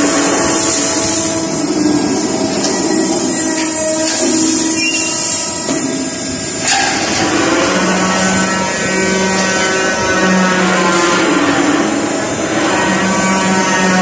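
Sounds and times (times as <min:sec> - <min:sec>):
low drone: 0:00.0 - 0:14.0
roll forming machine running: 0:00.0 - 0:14.0.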